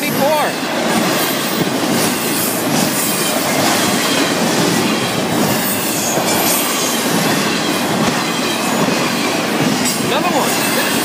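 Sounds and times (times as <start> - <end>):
freight cars rolling on rails: 0.0 - 11.0.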